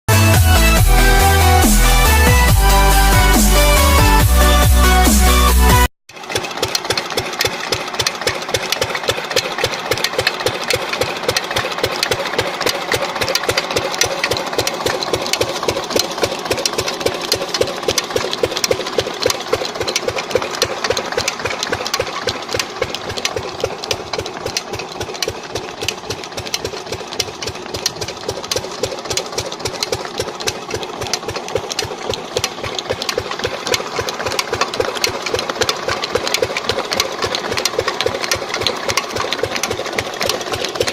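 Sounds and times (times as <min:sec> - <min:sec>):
stationary diesel engine knocking: 0:06.1 - 0:40.9.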